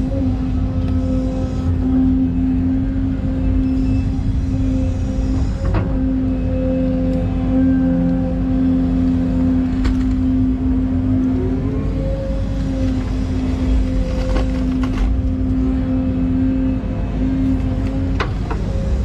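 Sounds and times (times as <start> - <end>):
excavator diesel engine: 0.0 - 19.0
hydraulic whine: 0.0 - 19.0.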